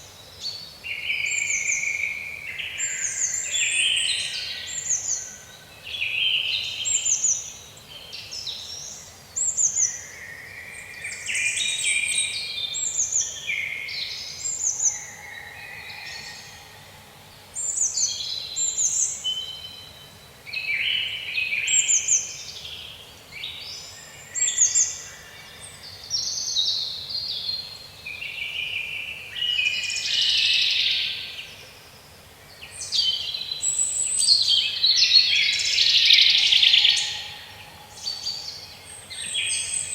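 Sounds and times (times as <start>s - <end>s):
faint background hiss: 0.0s - 39.9s
songbirds chorus: 0.0s - 39.9s.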